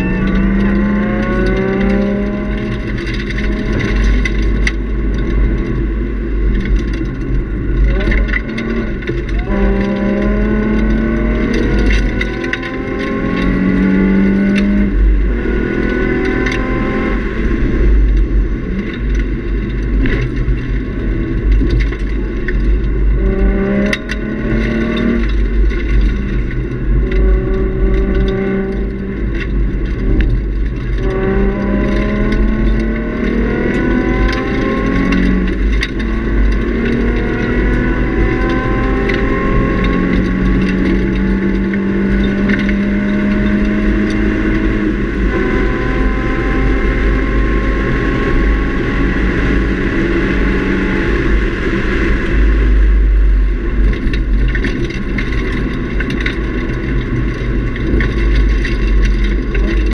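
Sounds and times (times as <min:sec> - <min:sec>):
car engine revving through gears: 0:00.0 - 0:59.9
road and wind rumble: 0:00.0 - 0:59.9.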